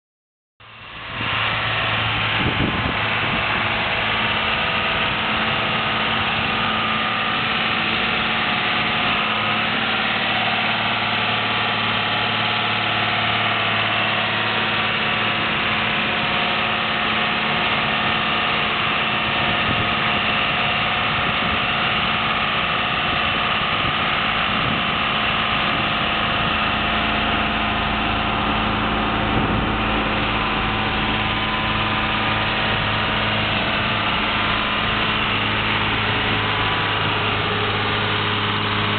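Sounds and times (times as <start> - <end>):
tractor diesel engine running: 0.6 - 38.9.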